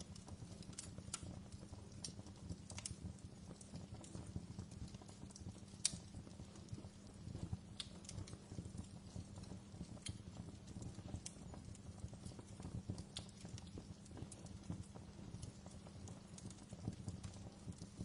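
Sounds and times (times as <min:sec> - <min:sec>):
sharp pops from fire: 0:00.0 - 0:18.0
wood fire crackling: 0:00.0 - 0:18.0.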